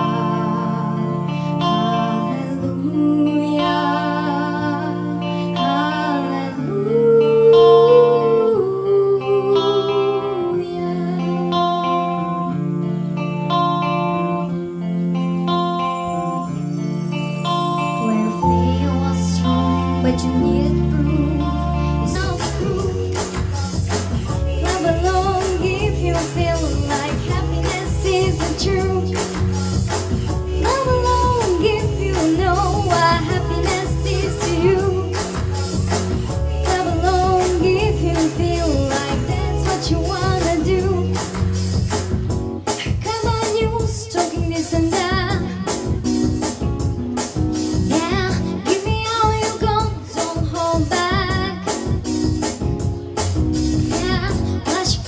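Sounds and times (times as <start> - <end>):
girl singing into microphone: 0.0 - 12.7, 17.4 - 41.8, 42.7 - 46.7, 47.7 - 52.8, 53.8 - 55.0
pop backing track with drums: 0.0 - 55.0.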